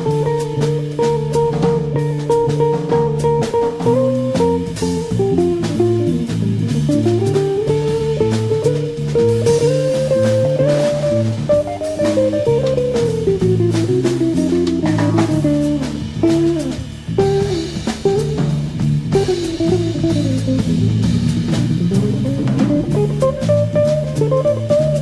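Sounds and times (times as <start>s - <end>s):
guitar-led instrumental music: 0.0s - 25.0s.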